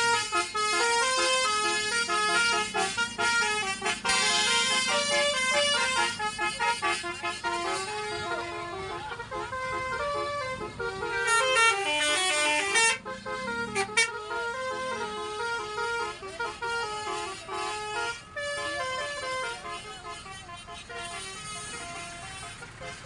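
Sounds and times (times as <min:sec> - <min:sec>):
bus musical horn playing: 0:00.0 - 0:23.0.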